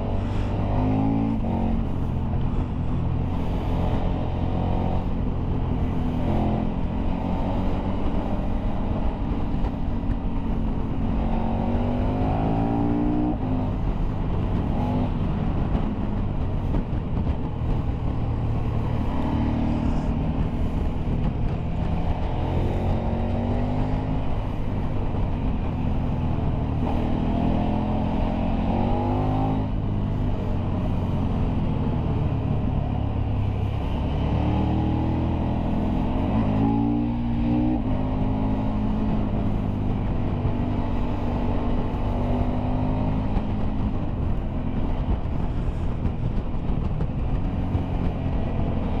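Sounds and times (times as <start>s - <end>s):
motorcycle engine accelerating: 0.0s - 49.0s
wind and road noise: 0.0s - 49.0s.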